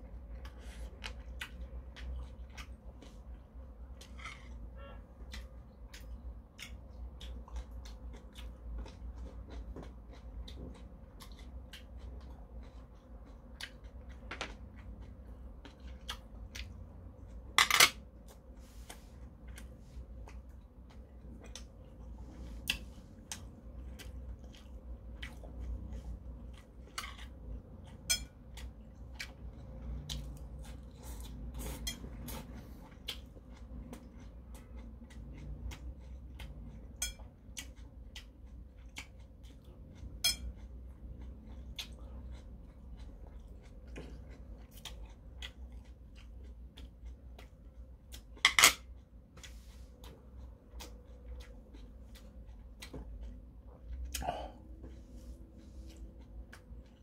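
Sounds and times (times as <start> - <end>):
chewing: 0.1 - 57.0.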